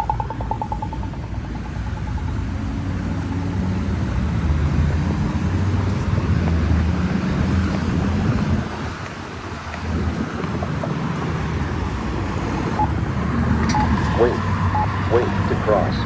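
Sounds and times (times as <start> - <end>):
vehicle engines rumbling past: 0.0 - 16.0.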